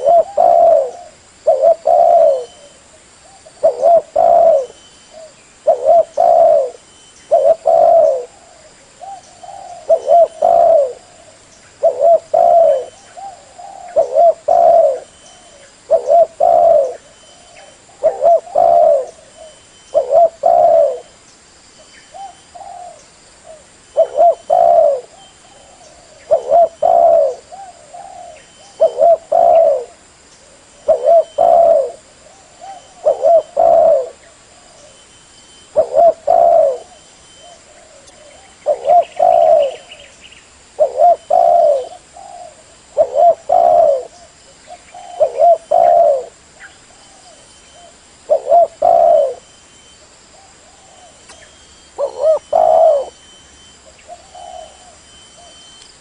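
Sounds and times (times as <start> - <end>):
dove cooing: 0.0 - 21.2, 22.1 - 40.1, 40.7 - 49.5, 50.4 - 55.8.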